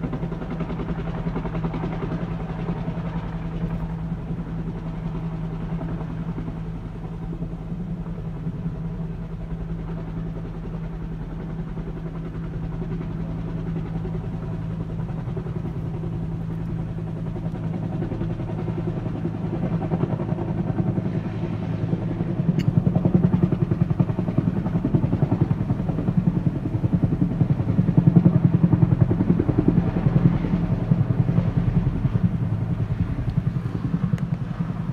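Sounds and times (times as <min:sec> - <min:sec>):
helicopter flying overhead: 0:00.0 - 0:34.9.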